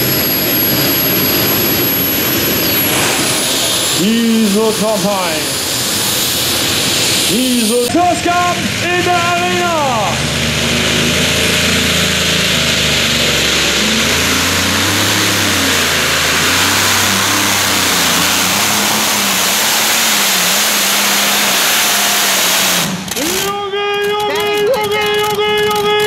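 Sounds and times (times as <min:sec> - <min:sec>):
tractor engines at full power: 0:00.0 - 0:26.0.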